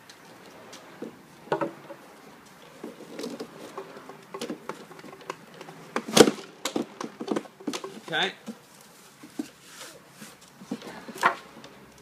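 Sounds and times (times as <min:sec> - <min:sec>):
rope rubbing and rustling: 0:00.0 - 0:11.7.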